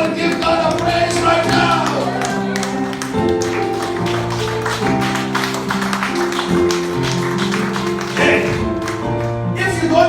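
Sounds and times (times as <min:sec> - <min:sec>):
church praise music: 0:00.0 - 0:10.0.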